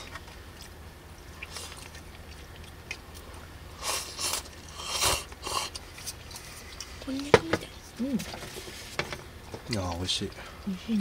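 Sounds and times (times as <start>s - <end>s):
chewing sounds: 0.0s - 8.0s, 8.6s - 11.0s.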